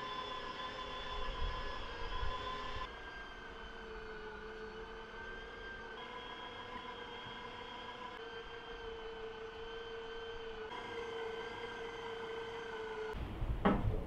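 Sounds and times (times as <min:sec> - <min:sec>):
meat grinder motor whine: 0:00.0 - 0:13.2.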